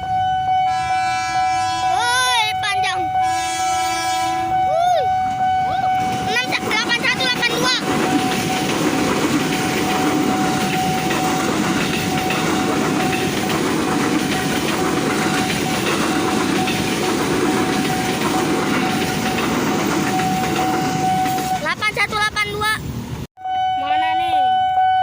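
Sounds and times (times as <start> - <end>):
train wheels rumbling on rail: 0.0 - 23.3.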